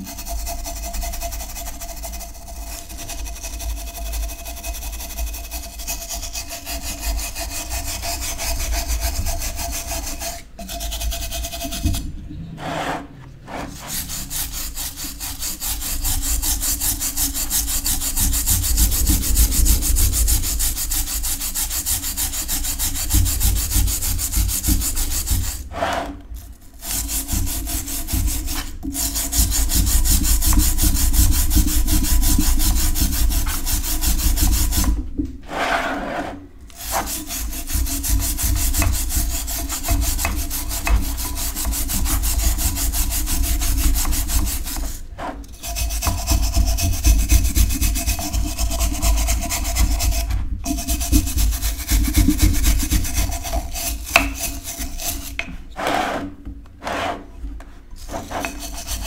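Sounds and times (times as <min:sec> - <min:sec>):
wire brush scrubbing metal: 0:00.0 - 0:57.3, 0:58.0 - 0:59.0.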